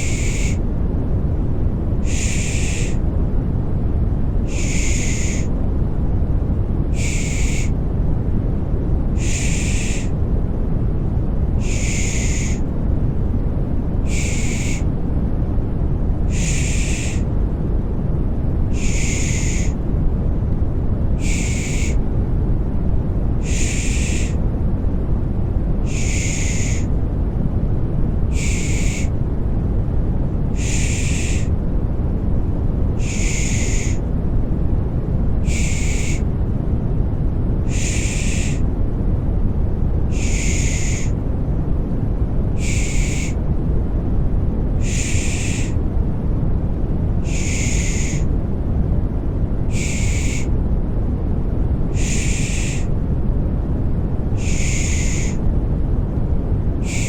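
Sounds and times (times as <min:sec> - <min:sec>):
low rushing white noise: 0:00.0 - 0:57.0.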